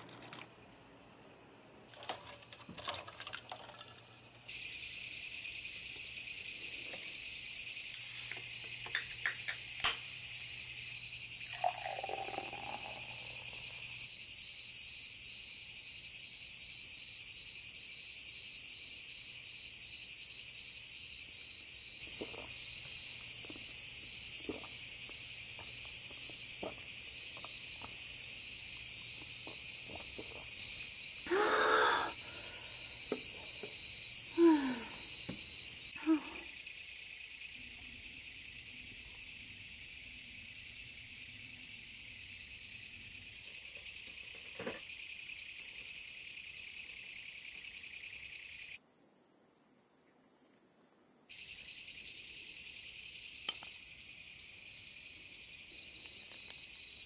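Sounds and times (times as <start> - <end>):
insects chirping and trilling: 0.0 - 57.0.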